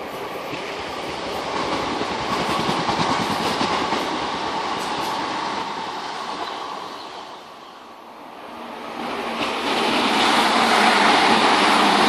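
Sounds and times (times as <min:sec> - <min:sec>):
electric train passing: 0:00.0 - 0:12.0.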